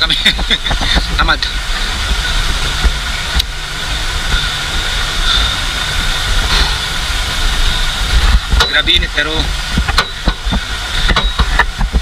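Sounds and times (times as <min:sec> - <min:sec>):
constant hiss: 0:00.0 - 0:12.0
vehicle engine rumbling: 0:00.0 - 0:12.0.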